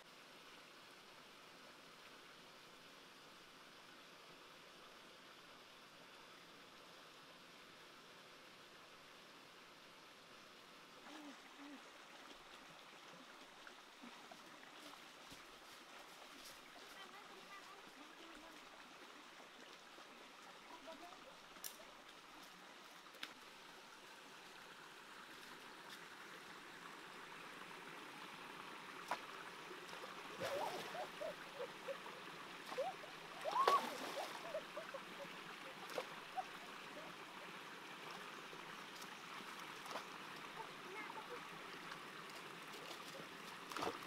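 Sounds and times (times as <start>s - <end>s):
stream water running over rocks: 0.0s - 44.0s.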